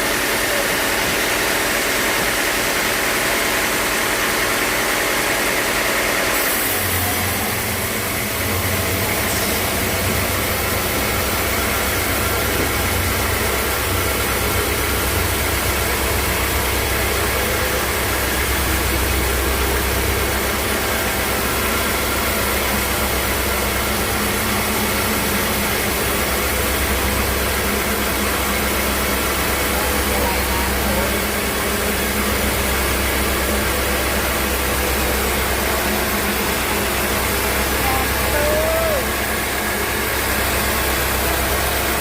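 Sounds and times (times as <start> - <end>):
sawmill machinery hum and hiss: 0.0 - 42.0.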